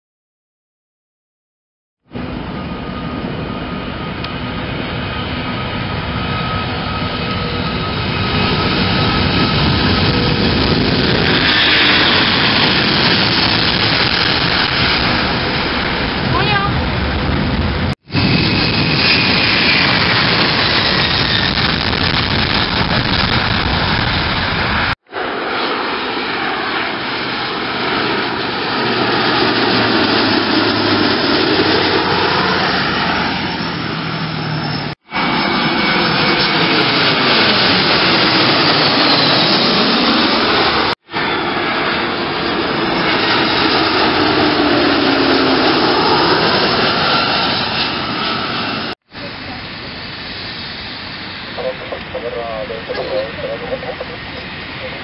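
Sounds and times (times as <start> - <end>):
airliner engines passing: 2.1 - 55.0.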